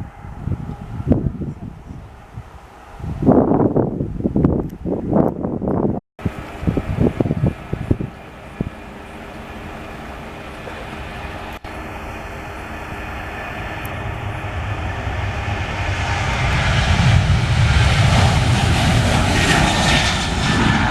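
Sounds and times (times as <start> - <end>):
jet engines roaring at takeoff: 0.0 - 20.9.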